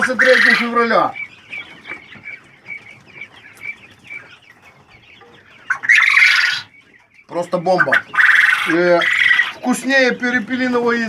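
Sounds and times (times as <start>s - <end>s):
poultry peeping: 0.0s - 11.0s.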